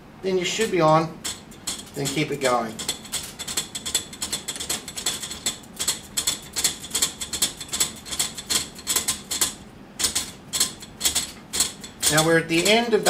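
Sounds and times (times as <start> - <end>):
serving jig ticking and clicking: 0.6 - 12.8.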